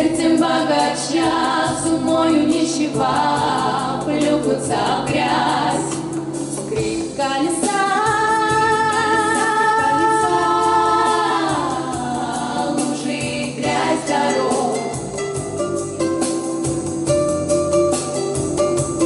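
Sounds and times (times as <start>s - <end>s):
vocal quartet singing in harmony: 0.0s - 16.0s.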